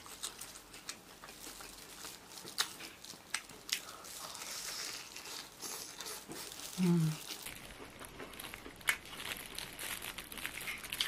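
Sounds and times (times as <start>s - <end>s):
crunching fried chicken: 0.0s - 11.0s.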